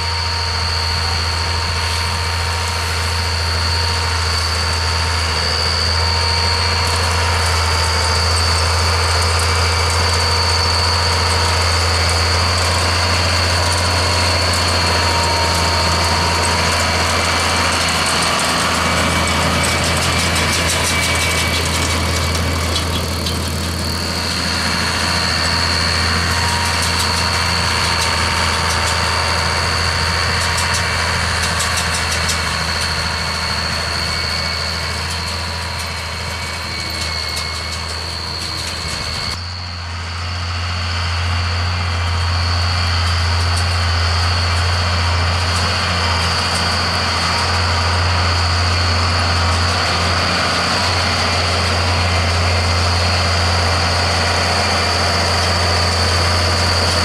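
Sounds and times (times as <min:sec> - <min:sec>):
high-pitched machinery whine: 0:00.0 - 0:57.0
tractor diesel engine running: 0:00.0 - 0:57.0.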